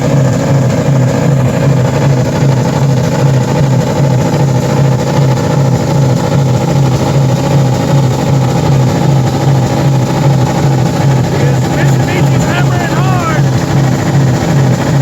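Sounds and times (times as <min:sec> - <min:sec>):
car engine at high throttle: 0:00.0 - 0:15.0.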